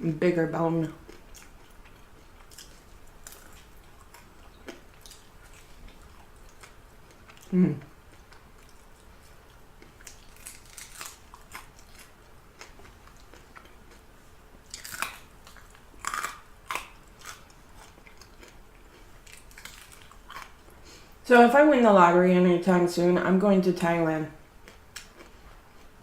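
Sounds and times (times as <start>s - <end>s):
chewing crispy fried chicken: 0.8s - 20.8s, 24.6s - 26.0s.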